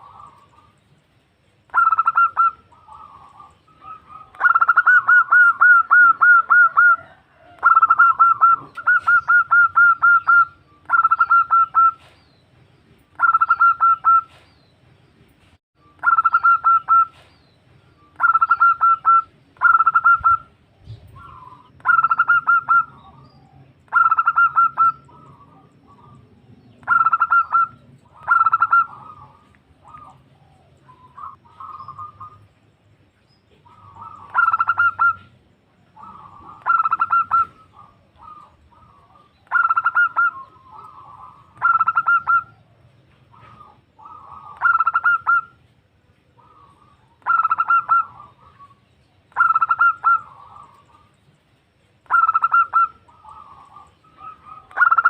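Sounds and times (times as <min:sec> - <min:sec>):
dove cooing: 0:00.0 - 0:00.8, 0:01.7 - 0:12.2, 0:13.2 - 0:14.4, 0:16.0 - 0:17.4, 0:18.2 - 0:32.6, 0:33.5 - 0:45.7, 0:46.4 - 0:51.2, 0:52.0 - 0:55.0.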